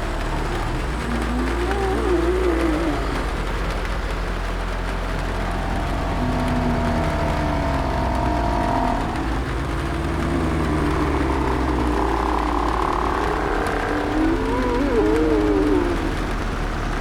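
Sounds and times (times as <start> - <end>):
low constant rumble: 0.0 - 17.0
rain on a roof: 0.0 - 17.0
zombie moans: 0.0 - 17.0.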